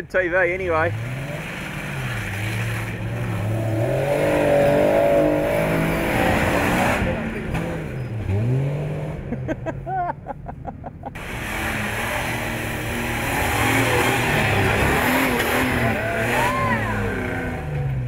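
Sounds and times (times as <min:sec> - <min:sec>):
engine revving under load: 0:00.6 - 0:09.6, 0:11.1 - 0:18.0.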